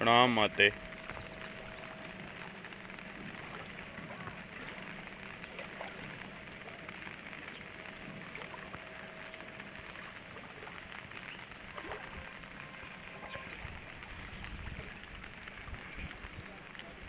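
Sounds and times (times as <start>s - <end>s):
low rumbles: 0.0s - 17.0s
river rushing: 0.0s - 17.0s.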